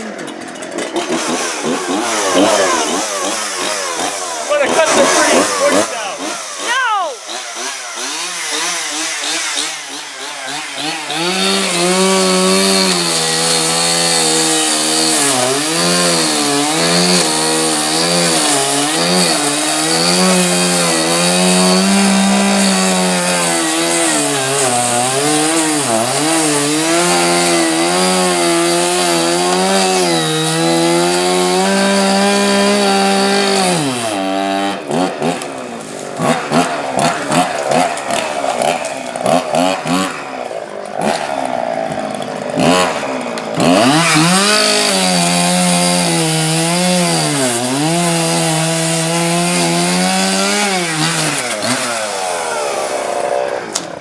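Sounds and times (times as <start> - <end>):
chainsaw cutting through bush: 0.0 - 54.0.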